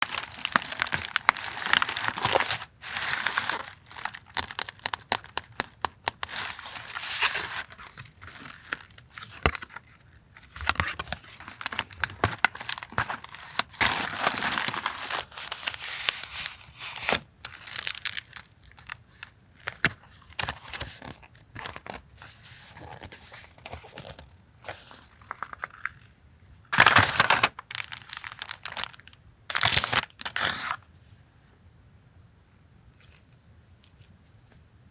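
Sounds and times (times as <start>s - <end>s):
packaging crinkling and tearing: 0.0s - 22.1s, 22.7s - 26.1s, 26.7s - 30.8s.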